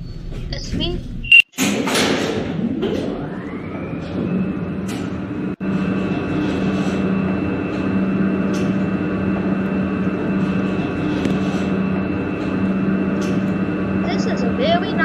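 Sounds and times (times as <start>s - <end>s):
lift motor hum with high whine: 0.0s - 15.0s.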